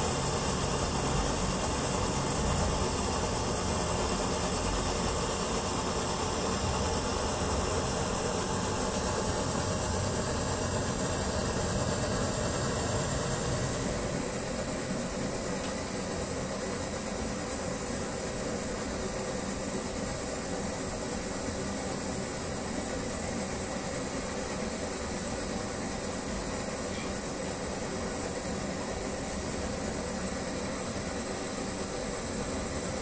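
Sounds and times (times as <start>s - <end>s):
pressure stove burner hissing: 0.0s - 33.0s.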